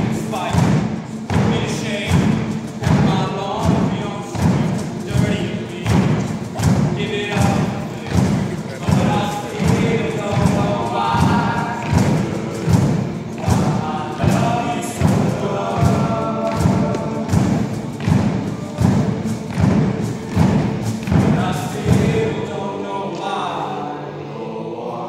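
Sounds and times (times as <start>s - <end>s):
steady thumping beat: 0.0s - 22.4s
men's a cappella choir singing: 0.0s - 25.0s.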